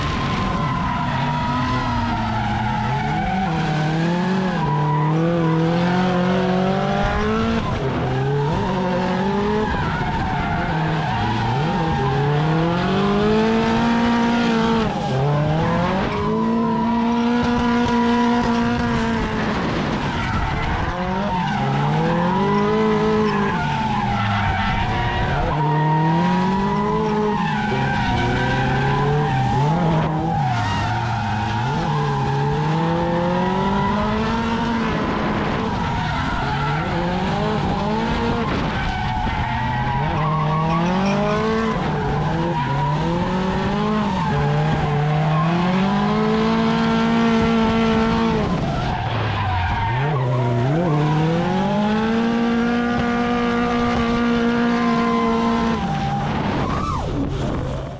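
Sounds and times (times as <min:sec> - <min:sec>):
car engine revving: 0:00.0 - 0:57.9
tire squeal: 0:00.0 - 0:57.9.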